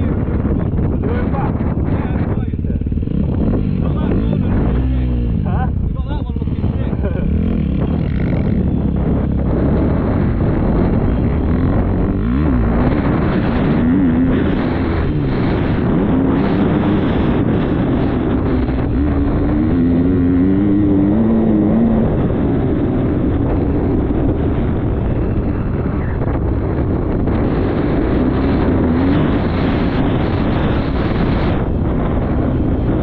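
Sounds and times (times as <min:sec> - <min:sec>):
motocross bike engine: 0:00.0 - 0:33.0
wind noise on microphone: 0:00.0 - 0:33.0.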